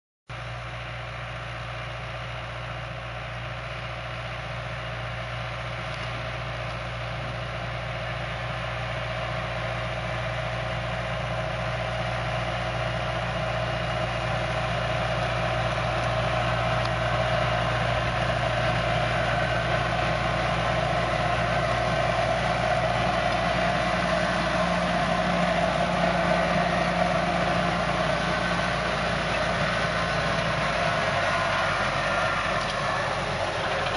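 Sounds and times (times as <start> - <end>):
tractor diesel engine running: 0.3 - 33.9.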